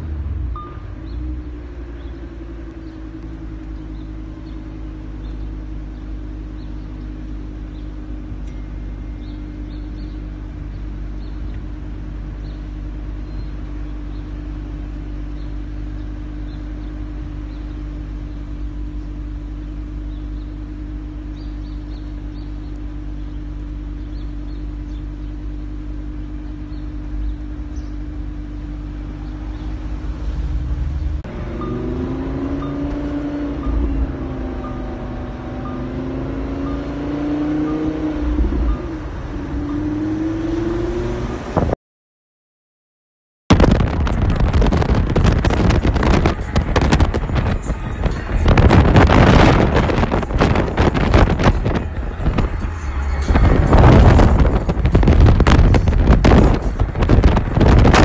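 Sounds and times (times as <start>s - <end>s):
car engine and road noise: 0.0s - 41.8s, 43.5s - 58.0s.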